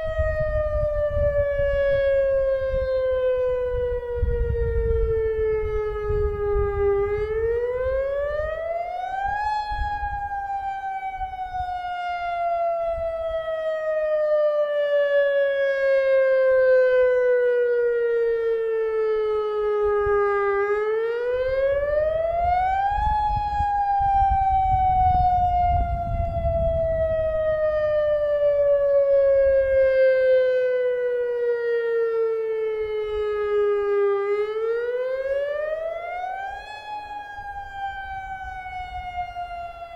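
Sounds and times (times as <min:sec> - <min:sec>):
warning siren rising and falling: 0:00.0 - 0:39.9.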